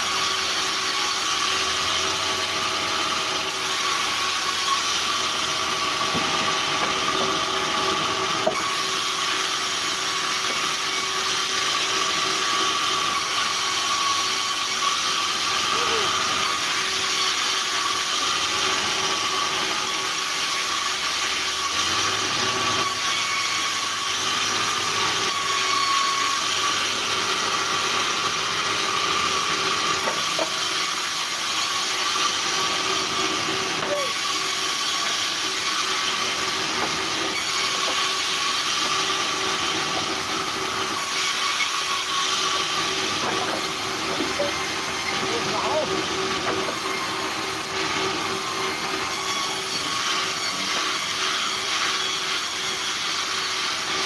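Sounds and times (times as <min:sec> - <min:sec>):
bandsaw blade cutting wood: 0:00.0 - 0:54.0
sawmill hum: 0:00.0 - 0:54.0.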